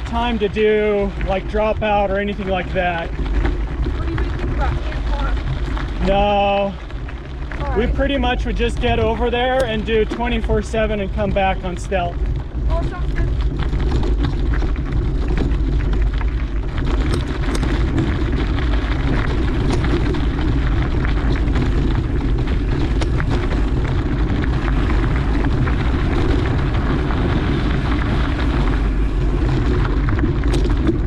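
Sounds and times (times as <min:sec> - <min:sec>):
bike clicks and rattles: 0:00.0 - 0:31.0
wind rush on microphone: 0:00.0 - 0:31.0.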